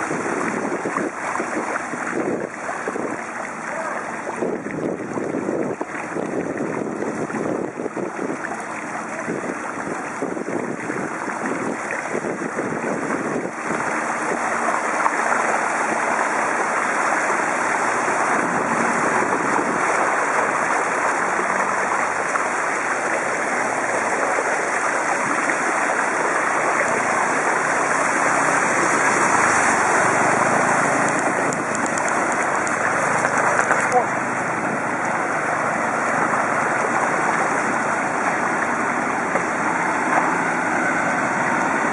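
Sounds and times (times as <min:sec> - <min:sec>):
bicycle swishing through water: 0:00.0 - 0:41.9
wind noise on microphone: 0:00.0 - 0:41.9.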